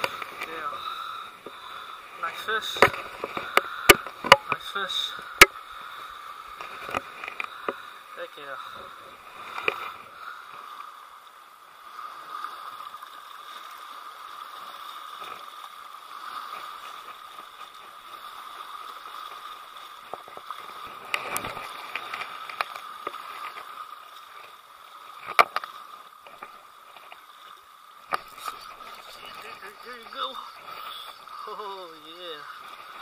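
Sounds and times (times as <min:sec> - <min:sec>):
waves lapping at shore: 0:00.0 - 0:33.0.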